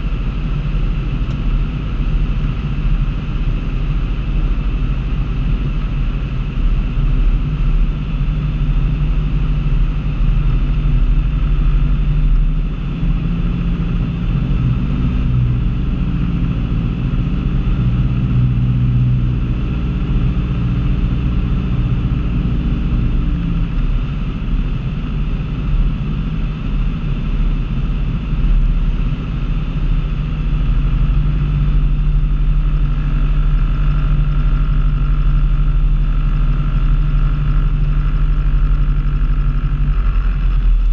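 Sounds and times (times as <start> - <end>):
propeller aircraft engine droning: 0.0 - 40.9.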